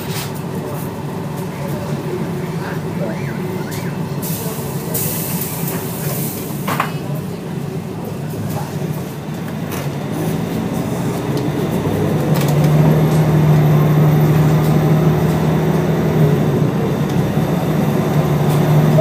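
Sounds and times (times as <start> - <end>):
diesel bus engine under load: 0.0 - 19.0.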